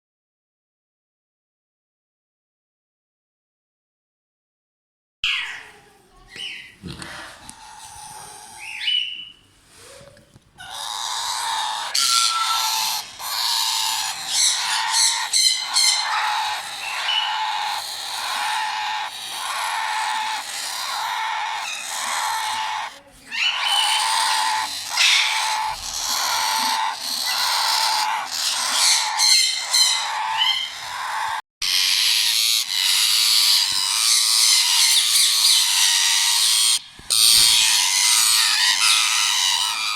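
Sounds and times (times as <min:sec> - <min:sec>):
parakeet chicks squawking: 0:05.2 - 0:39.9.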